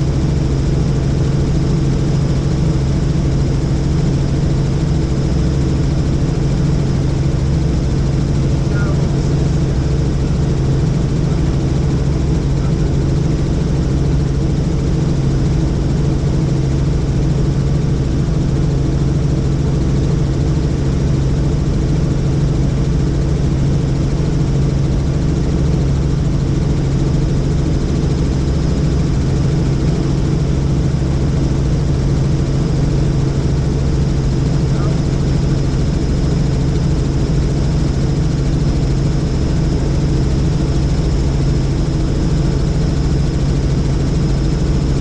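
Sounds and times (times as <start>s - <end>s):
helicopter turbine and rotors: 0.0s - 45.0s.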